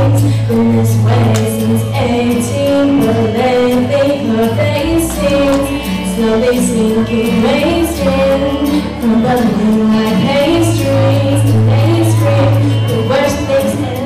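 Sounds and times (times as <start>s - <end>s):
girl singing into microphone: 0.0s - 14.0s
pop backing track: 0.0s - 14.0s.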